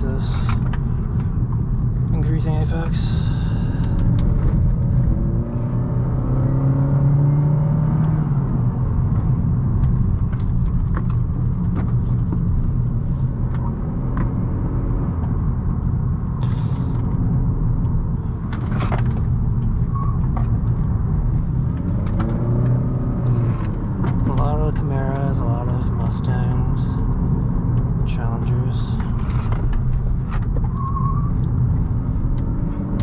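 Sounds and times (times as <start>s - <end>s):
car engine accelerating: 0.0s - 33.0s
road and tyre rumble: 0.0s - 33.0s.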